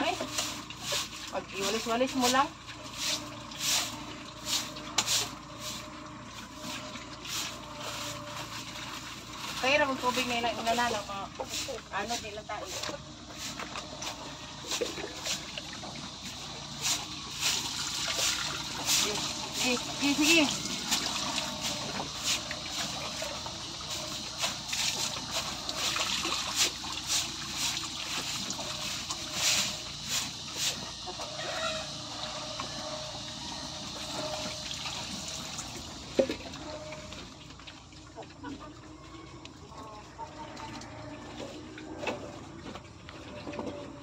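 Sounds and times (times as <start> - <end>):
broom sweeping wet concrete: 0.0 - 37.2
water running and splashing: 0.0 - 44.0.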